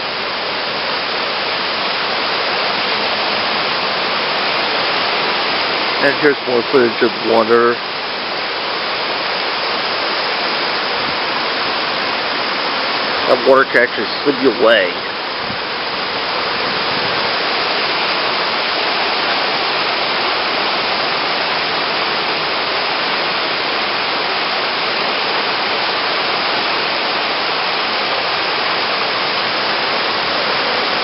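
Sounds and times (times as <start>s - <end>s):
floodwater rushing in a creek: 0.0s - 31.0s.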